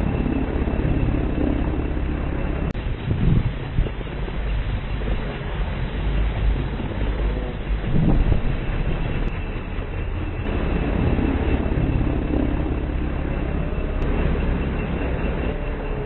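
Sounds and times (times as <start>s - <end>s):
helicopter engine and rotor noise: 0.0s - 16.0s
high whine: 0.0s - 16.0s.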